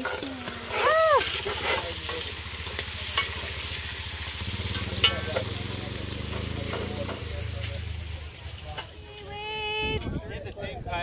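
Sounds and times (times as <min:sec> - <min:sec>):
bacon sizzling: 0:00.0 - 0:09.8.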